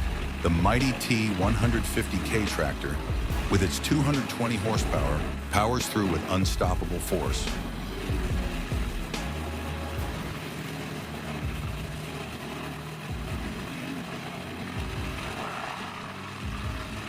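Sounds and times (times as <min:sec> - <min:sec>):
tractor engine under load: 0:00.0 - 0:17.0.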